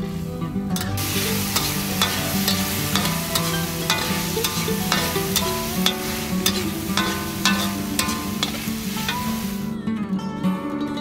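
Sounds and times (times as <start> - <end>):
beans sizzling in hot oil: 0.0 - 9.8
metal spatula scraping a wok: 0.8 - 9.7.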